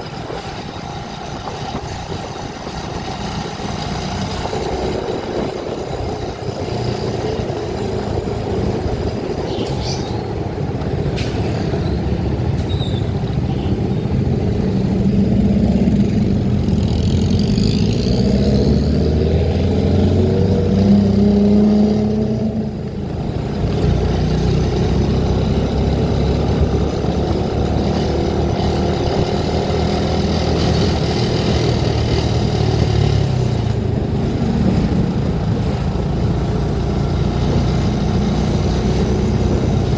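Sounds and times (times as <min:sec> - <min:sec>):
road noise: 0:00.0 - 0:39.9
vehicle engine: 0:00.0 - 0:39.9.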